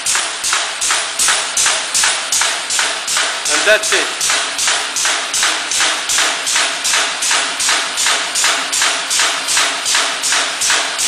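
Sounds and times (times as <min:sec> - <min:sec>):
punching press strokes: 0:00.0 - 0:11.0.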